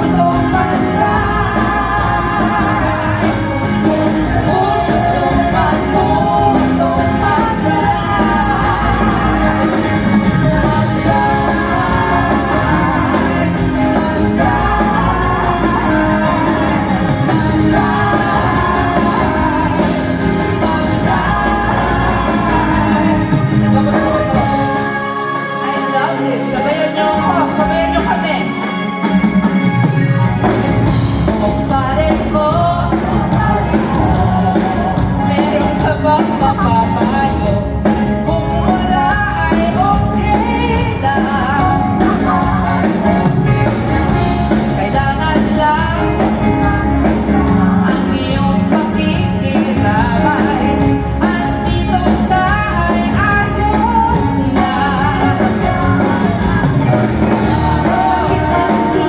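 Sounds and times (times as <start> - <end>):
pop song with singer and band: 0.0 - 59.0.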